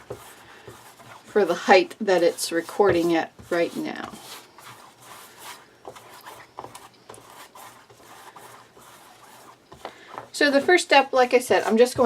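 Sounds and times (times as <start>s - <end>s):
paintbrush scratching on canvas: 0.0s - 12.0s.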